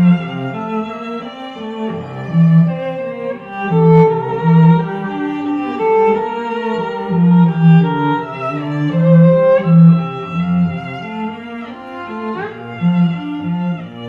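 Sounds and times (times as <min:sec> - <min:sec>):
cello and string music over loudspeakers: 0:00.0 - 0:14.0.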